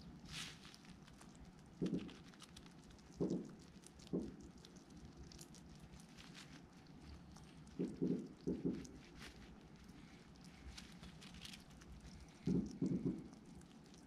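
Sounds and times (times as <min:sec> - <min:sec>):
hedgehog rustling on liner: 0:00.0 - 0:14.0.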